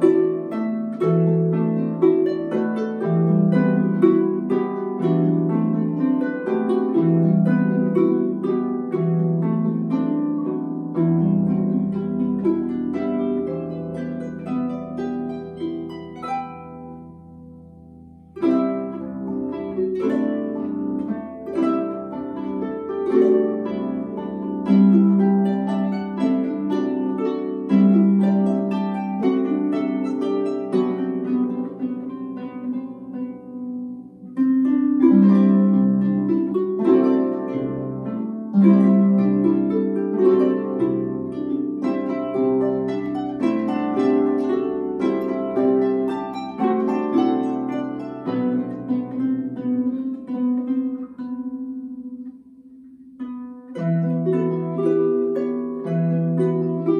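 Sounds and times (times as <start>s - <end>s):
harps plucked in duet: 0.0s - 56.9s.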